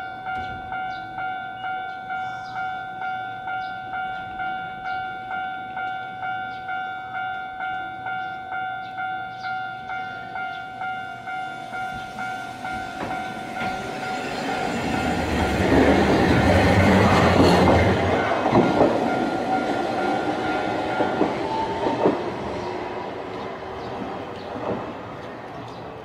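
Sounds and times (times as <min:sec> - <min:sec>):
level-crossing bell dinging: 0:00.0 - 0:23.9
tram wheels rumbling and clacking: 0:03.5 - 0:26.0.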